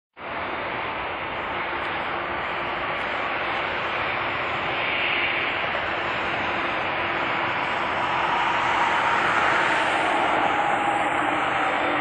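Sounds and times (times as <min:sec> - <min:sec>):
jet engines running at low power: 0:00.2 - 0:12.0.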